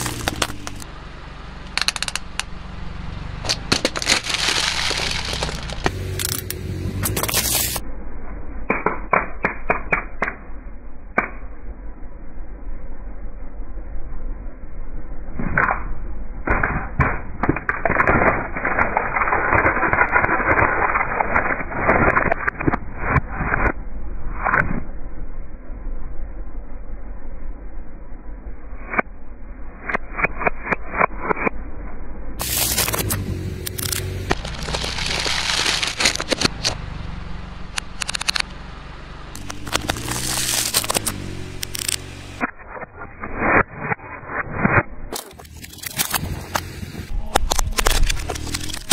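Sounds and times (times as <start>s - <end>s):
car low rumble: 0.0s - 43.7s, 44.9s - 48.9s.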